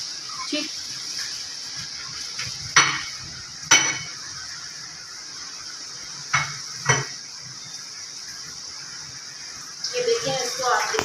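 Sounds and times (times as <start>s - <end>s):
water boiling with a hiss: 0.0s - 11.0s.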